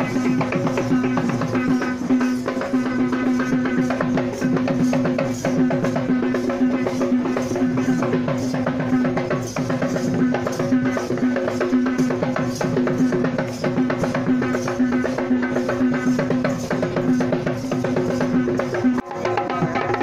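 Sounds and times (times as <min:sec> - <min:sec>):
fast drumming: 0:00.0 - 0:20.0.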